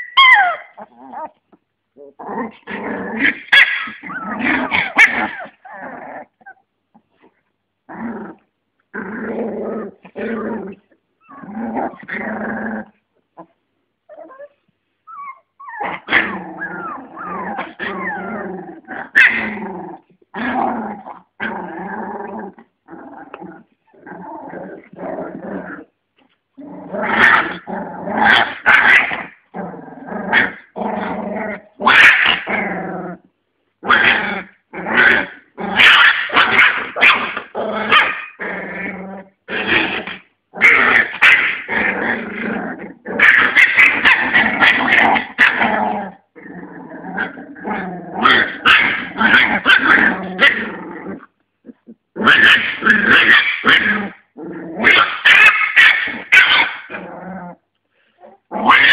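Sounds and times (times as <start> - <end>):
puppies growling and yipping: 0.0 - 58.9.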